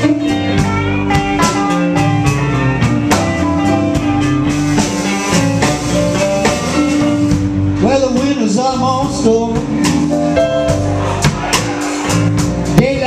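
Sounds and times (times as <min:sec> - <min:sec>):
blues band playing: 0:00.0 - 0:13.0
guitar lines: 0:00.0 - 0:13.0.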